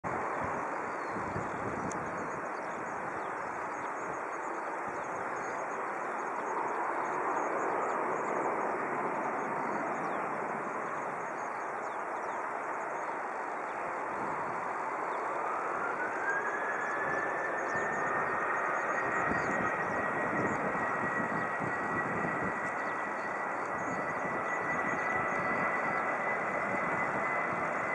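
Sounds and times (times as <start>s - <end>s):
jet engine whine rising: 0.1s - 27.9s
jet engines rushing: 0.1s - 27.9s.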